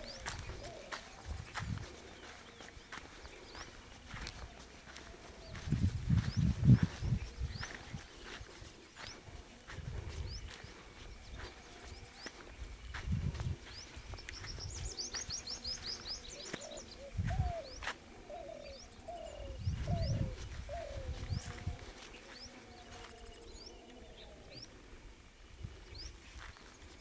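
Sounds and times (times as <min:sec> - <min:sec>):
bird cooing: 0:00.0 - 0:13.3, 0:14.4 - 0:25.0
birds chirping: 0:00.0 - 0:27.0.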